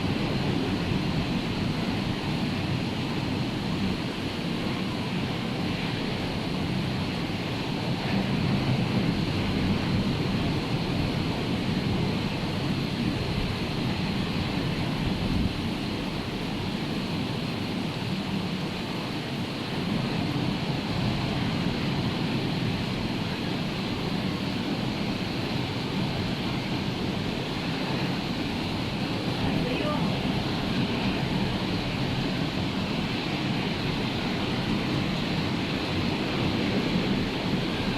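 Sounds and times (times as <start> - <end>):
wind on microphone: 0.0 - 19.0, 19.6 - 37.9
rough sea surf breaking: 0.0 - 37.9.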